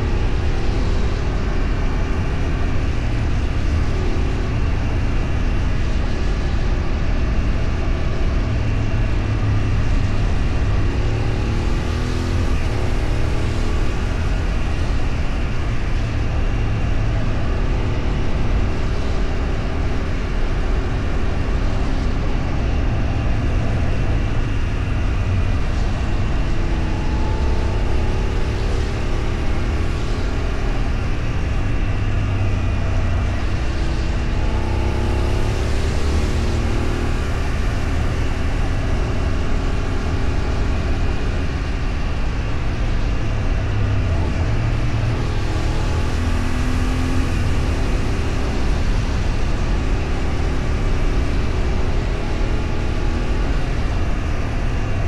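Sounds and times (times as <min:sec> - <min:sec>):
road noise: 0:00.0 - 0:55.0
vehicle engine running: 0:00.0 - 0:55.0
wind noise: 0:00.0 - 0:55.0.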